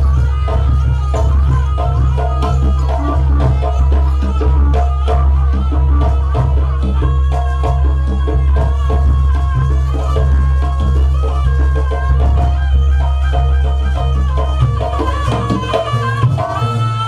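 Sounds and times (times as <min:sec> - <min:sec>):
drums and percussion music: 0:00.0 - 0:17.0.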